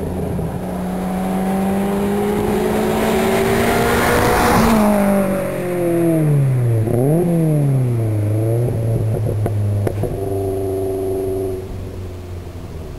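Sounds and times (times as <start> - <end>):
car engine revving and idling: 0.0 - 12.9.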